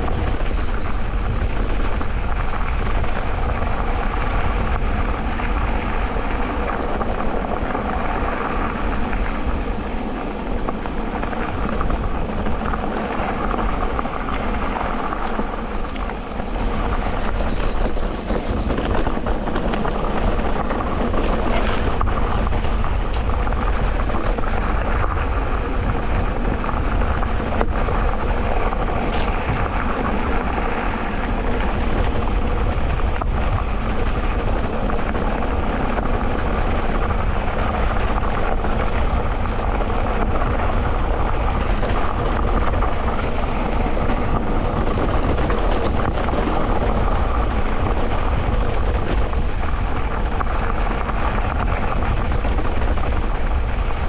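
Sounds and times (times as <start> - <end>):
bike tyres rolling on dirt: 0.0 - 54.0.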